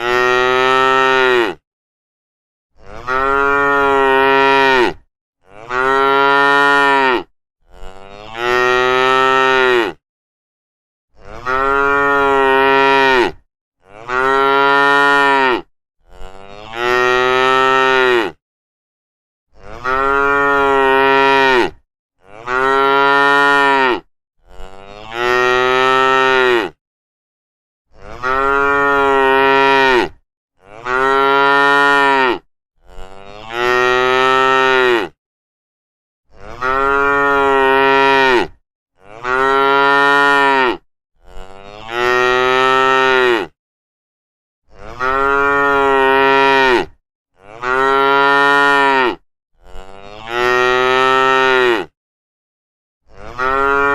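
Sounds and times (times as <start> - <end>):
cow mooing: 0.0 - 1.6, 2.8 - 10.0, 11.2 - 18.4, 19.6 - 26.8, 28.0 - 35.2, 36.3 - 43.6, 44.7 - 52.0, 53.1 - 53.9.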